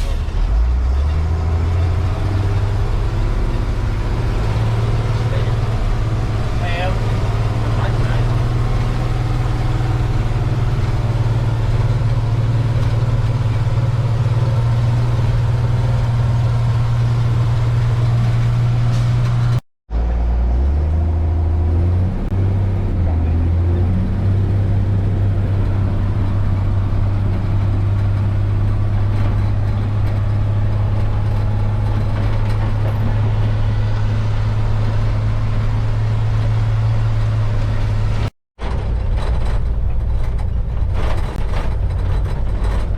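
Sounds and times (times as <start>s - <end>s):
heavy farm machinery engine: 0.0s - 42.9s.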